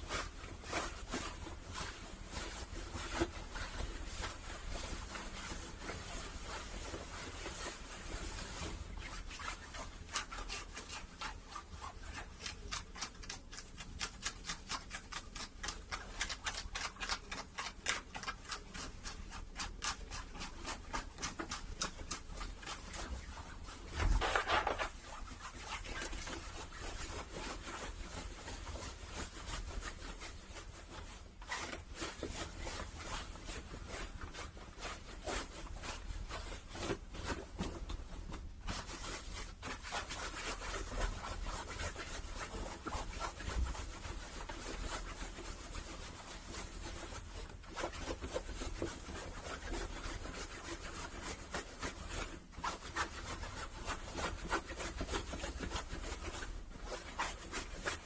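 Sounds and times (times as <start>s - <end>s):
fabric rustle: 0.0s - 58.0s
fingers scratching hat fabric: 0.0s - 58.0s.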